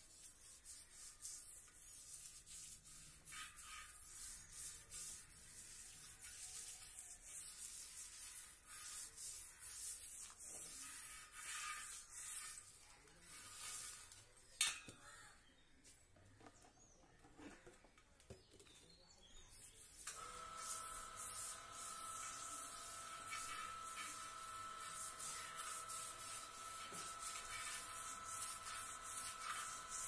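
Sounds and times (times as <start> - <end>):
brush scrubbing metal rim: 0.0 - 14.4, 19.6 - 30.0.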